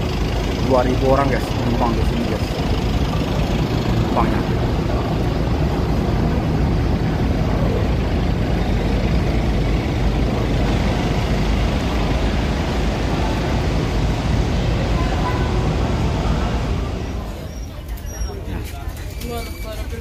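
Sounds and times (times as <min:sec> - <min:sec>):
low rumble of engine machinery: 0:00.0 - 0:18.0.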